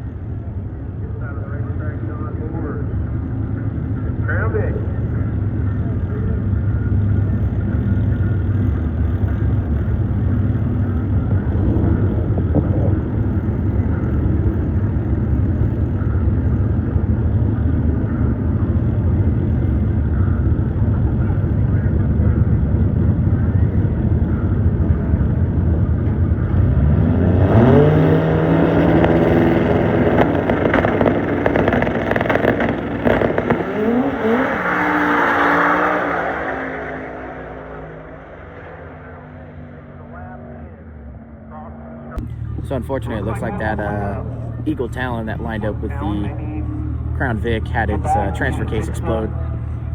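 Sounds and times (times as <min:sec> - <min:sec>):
drag car engines revving: 0:00.0 - 0:49.9.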